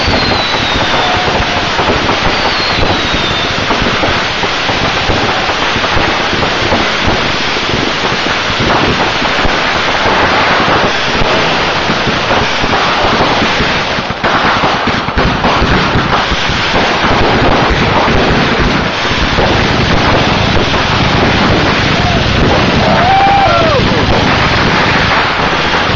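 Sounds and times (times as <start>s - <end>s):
fireworks crackling and banging: 0.0s - 25.9s.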